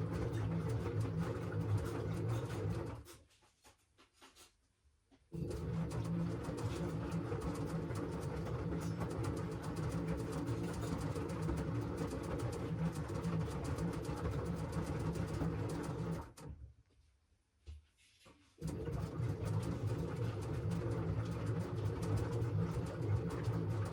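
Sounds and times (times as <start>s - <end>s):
washing machine motor humming: 0.0s - 3.1s, 5.4s - 16.6s, 18.6s - 23.9s.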